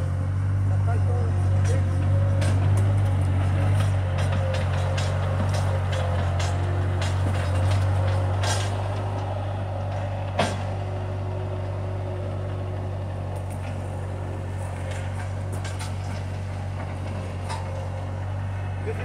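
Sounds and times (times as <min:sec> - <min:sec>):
skid-steer loader engine running: 0:00.0 - 0:19.0.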